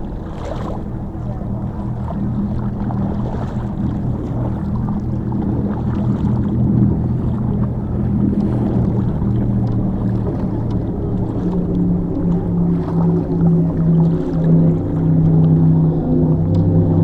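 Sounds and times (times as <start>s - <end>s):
boat engine droning hum: 0.0s - 17.0s
deep engine tone: 0.0s - 17.0s
water noise: 0.0s - 17.0s
wind: 0.0s - 17.0s.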